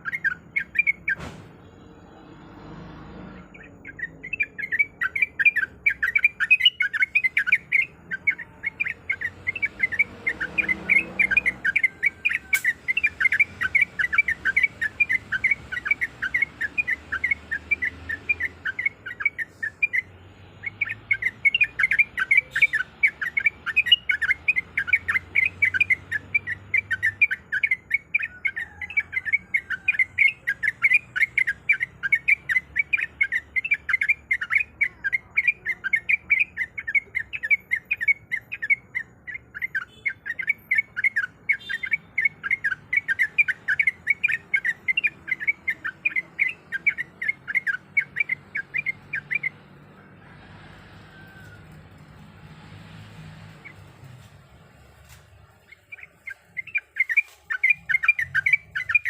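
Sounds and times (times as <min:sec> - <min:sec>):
bird chattering song: 0:00.0 - 0:01.3, 0:03.3 - 0:50.4, 0:53.1 - 0:59.0.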